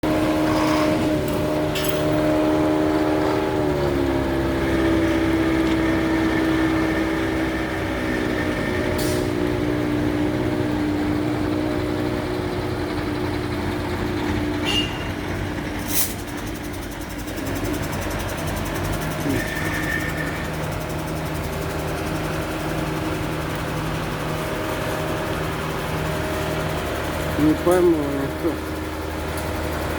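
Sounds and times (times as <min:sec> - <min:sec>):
heavy engine droning: 0:00.0 - 0:29.9.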